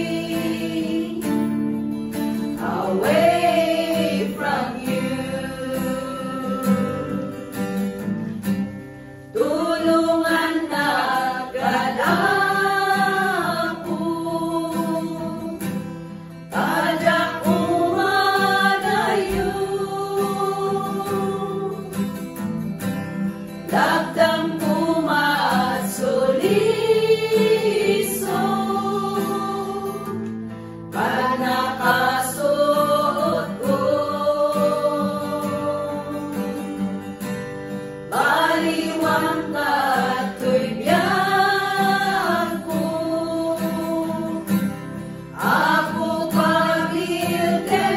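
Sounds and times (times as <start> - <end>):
women singing together: 0.0 - 7.4, 9.3 - 15.9, 16.5 - 22.2, 23.7 - 30.3, 30.9 - 37.1, 38.1 - 47.9
acoustic guitar: 0.0 - 47.9.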